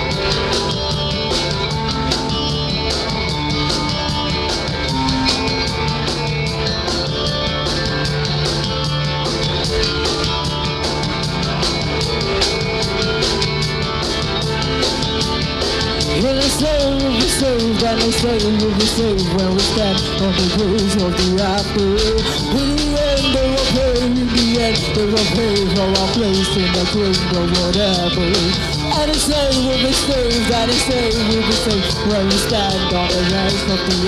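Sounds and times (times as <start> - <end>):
drum kit beating: 0.0 - 34.0
instrumental rock band: 0.0 - 34.0.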